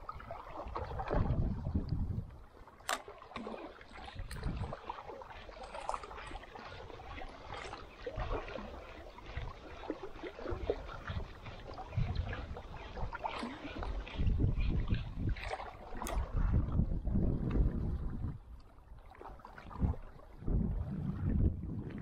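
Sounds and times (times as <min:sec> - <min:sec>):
small waves lapping against hull: 0:00.0 - 0:22.0
wind rumbling on microphone: 0:00.0 - 0:22.0.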